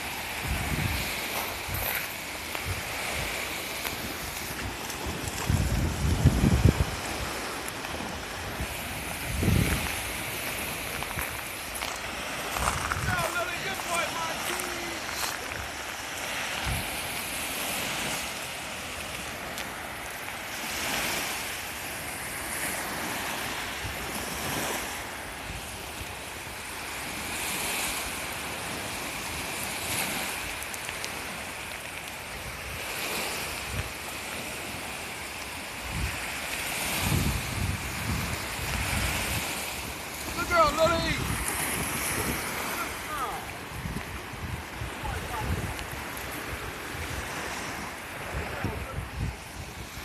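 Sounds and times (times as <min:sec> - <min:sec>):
small waves breaking on shore: 0:00.0 - 0:50.0
wind buffeting microphone: 0:00.0 - 0:50.0.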